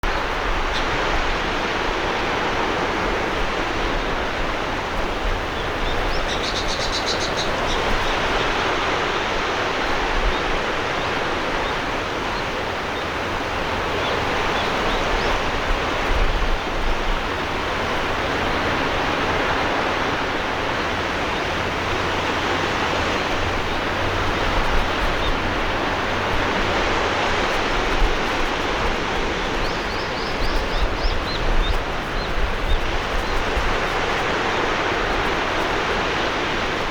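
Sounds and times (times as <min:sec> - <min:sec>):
waves washing onto shore: 0:00.0 - 0:36.9.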